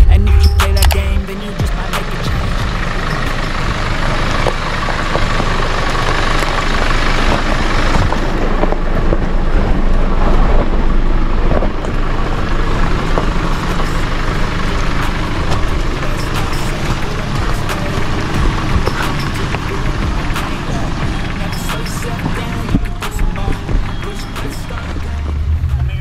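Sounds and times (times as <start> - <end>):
tyres crunching on dirt and stones: 0.0 - 26.0
vehicle engine at low speed: 0.0 - 26.0.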